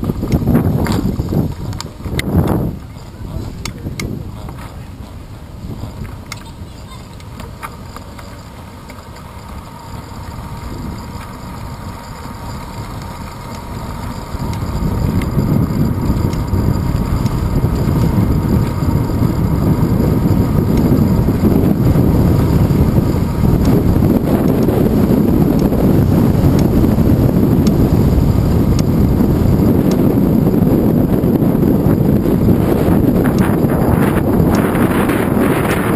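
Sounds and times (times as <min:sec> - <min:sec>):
wind buffeting microphone: 0:00.0 - 0:07.5, 0:12.4 - 0:35.9.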